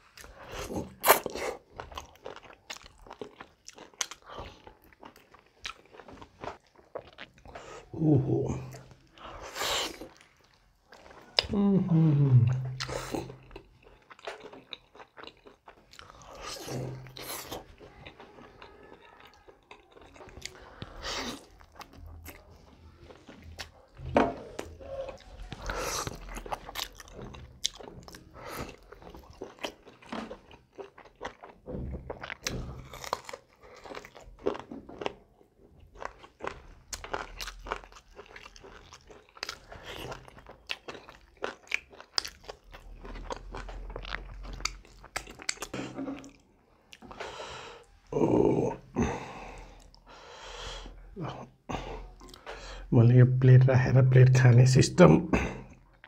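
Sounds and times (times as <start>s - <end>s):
crunchy chewing of fried chicken: 0.0s - 11.6s, 12.3s - 52.8s.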